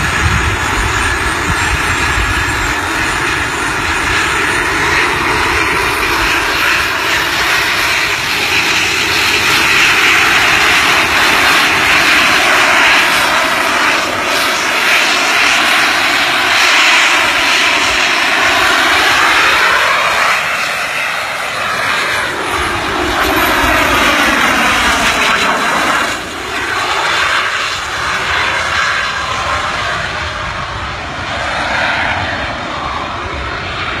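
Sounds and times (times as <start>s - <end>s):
jet engine roar and whine: 0.0s - 34.0s.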